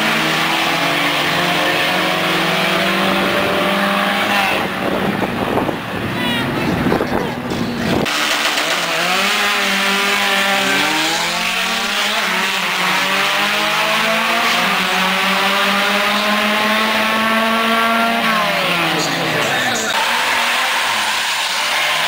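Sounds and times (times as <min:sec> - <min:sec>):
drag racing engines accelerating: 0:00.0 - 0:22.0.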